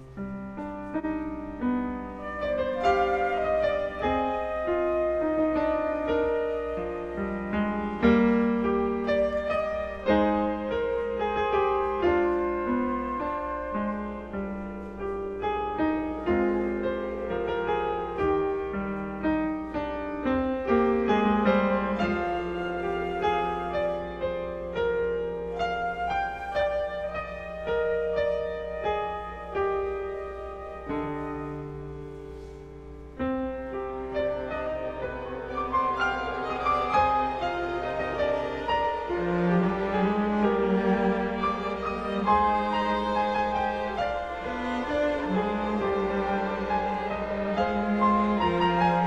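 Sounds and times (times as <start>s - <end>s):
grand piano playing: 0.0s - 49.0s
flute playing: 1.6s - 18.4s, 21.4s - 31.8s, 34.2s - 49.0s.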